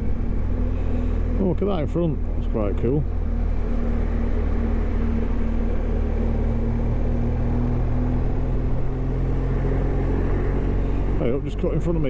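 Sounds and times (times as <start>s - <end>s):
motorcycle engine running: 0.0s - 12.0s
road noise: 0.0s - 12.0s
wind: 0.0s - 12.0s.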